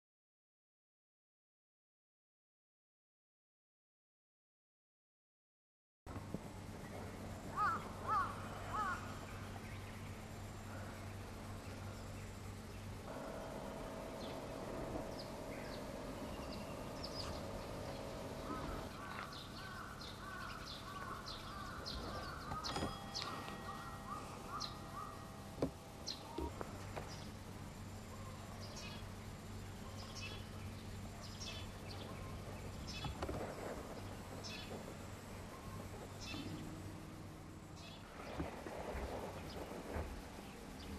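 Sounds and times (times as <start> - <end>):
low outdoor background: 6.1 - 40.9
small birds chirping: 6.8 - 13.1, 14.2 - 40.9.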